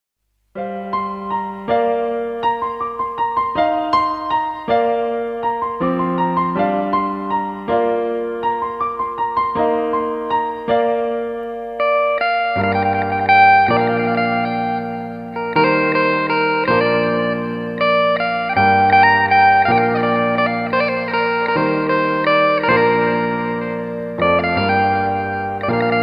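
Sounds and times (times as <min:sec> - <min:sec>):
electronic keyboard melody: 0:00.5 - 0:26.0.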